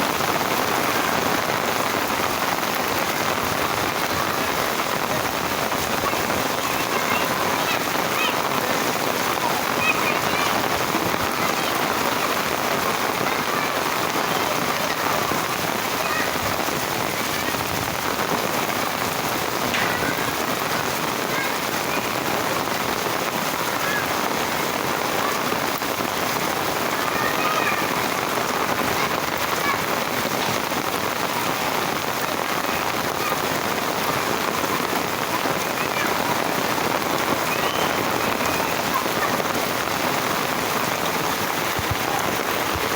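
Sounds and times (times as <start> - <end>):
heavy rain pouring: 0.0 - 42.9
faint children shouting: 2.9 - 17.8, 18.5 - 22.6, 23.4 - 25.8, 26.7 - 31.7, 32.4 - 42.9.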